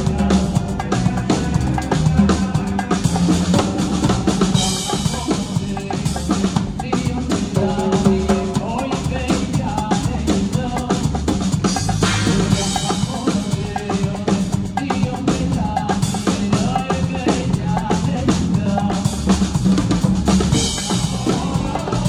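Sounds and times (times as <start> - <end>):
live band with singer: 0.0 - 22.0
loud busy drums: 0.0 - 22.0.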